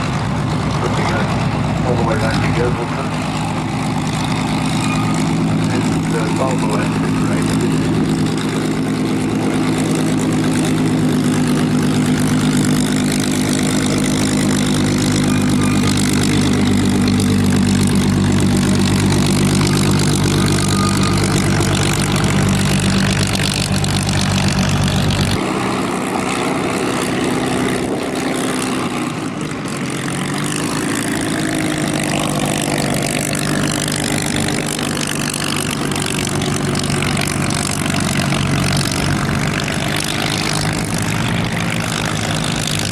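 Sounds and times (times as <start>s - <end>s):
propeller aircraft engine droning: 0.0s - 42.9s
rough uneven engine sound: 0.0s - 42.9s.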